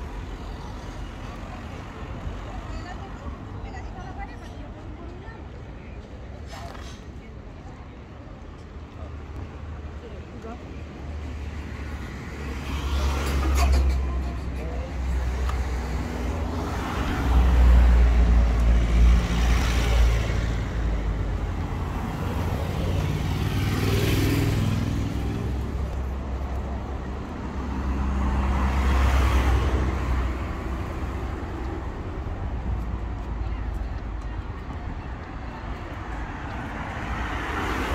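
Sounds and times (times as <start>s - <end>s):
cars passing by: 0.0s - 37.9s.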